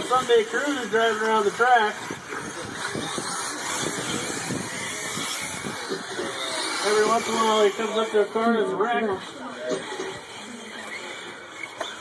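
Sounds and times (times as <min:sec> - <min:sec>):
tyres on dirt: 0:00.0 - 0:12.0
whine of toy truck motors: 0:00.0 - 0:12.0.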